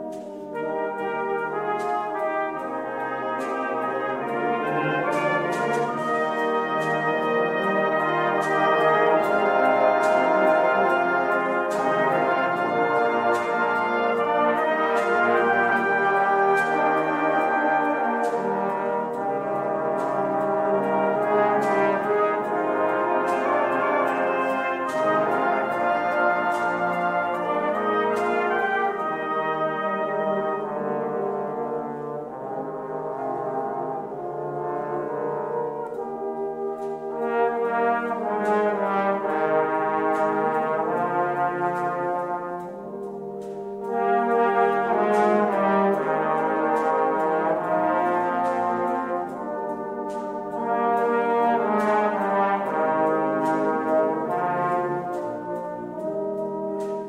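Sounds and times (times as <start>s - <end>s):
brass band playing chords: 0.0s - 57.0s.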